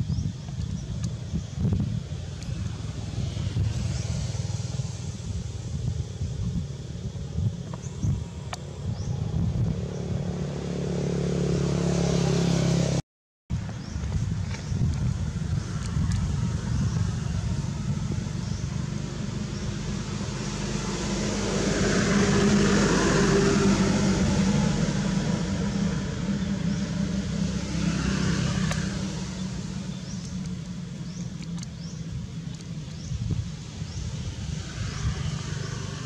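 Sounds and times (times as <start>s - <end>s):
steady low rumble: 0.0s - 10.8s, 13.5s - 36.0s
motor vehicle passing: 1.4s - 13.0s, 13.8s - 36.0s.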